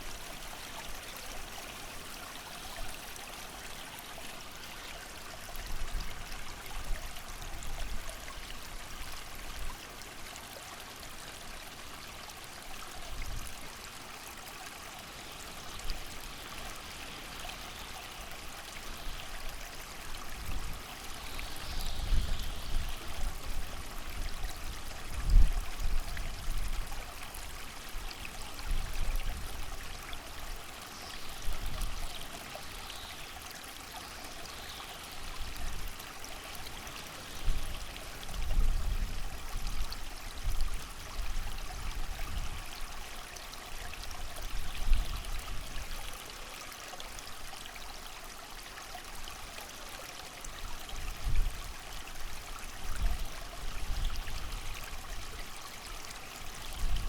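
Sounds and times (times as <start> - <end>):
creek running: 0.0 - 57.0.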